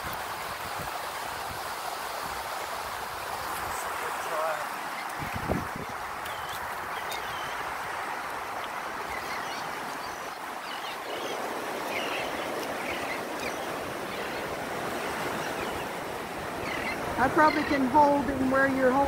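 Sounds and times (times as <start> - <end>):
surf washing on beach: 0.0 - 19.0.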